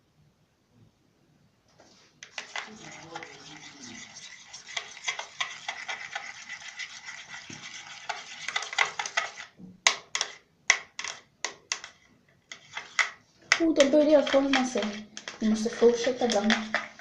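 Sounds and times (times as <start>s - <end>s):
wet sticky slime stirring: 1.9s - 17.0s.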